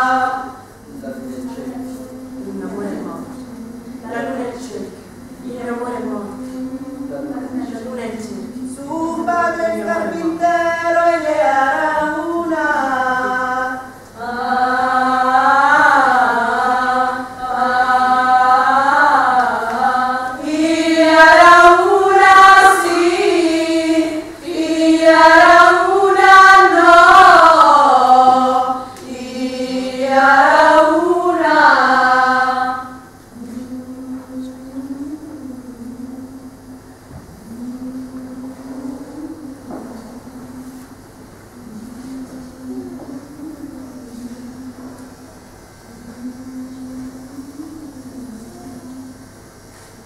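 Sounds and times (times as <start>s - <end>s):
women singing unaccompanied: 0.0s - 0.9s, 1.6s - 49.6s.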